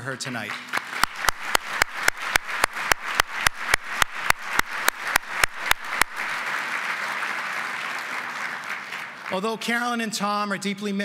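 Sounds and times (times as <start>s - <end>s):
close hand claps: 0.0s - 9.5s
audience applauding: 0.0s - 9.8s.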